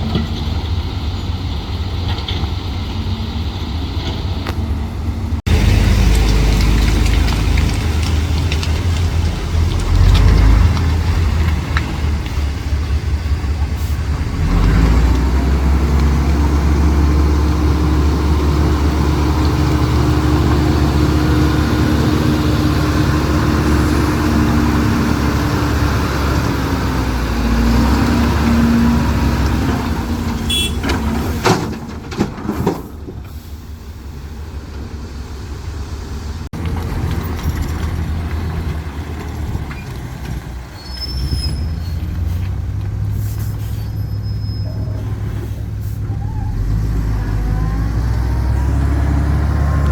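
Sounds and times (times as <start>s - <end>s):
diesel machinery engine running: 0.0s - 49.9s.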